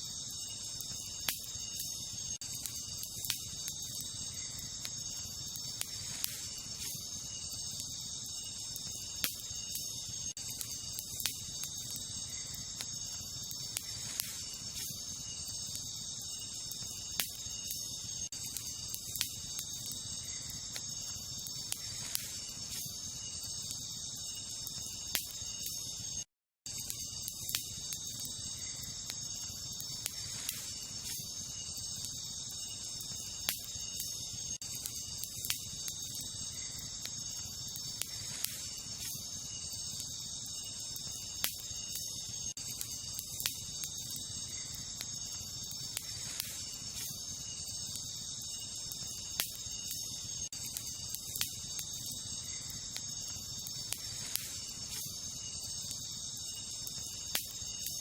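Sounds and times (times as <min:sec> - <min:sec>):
campfire crackling and popping: 0:00.0 - 0:58.0
high-pitched insect chorus: 0:00.0 - 0:58.0.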